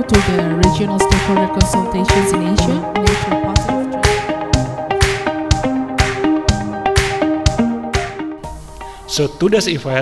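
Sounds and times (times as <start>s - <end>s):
upbeat electronic music: 0.0s - 8.9s.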